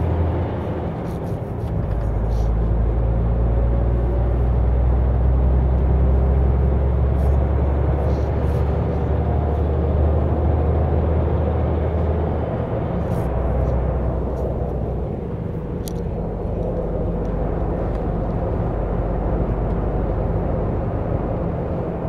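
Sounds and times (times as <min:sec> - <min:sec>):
truck diesel engine drone: 0:00.0 - 0:22.0
tyre and road noise: 0:00.0 - 0:22.0.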